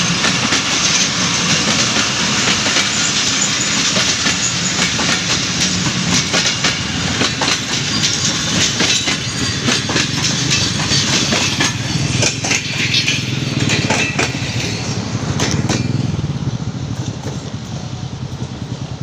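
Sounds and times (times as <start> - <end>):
train wheels clacking over rail joints: 0.0 - 18.8
low rumble of train: 0.0 - 19.0.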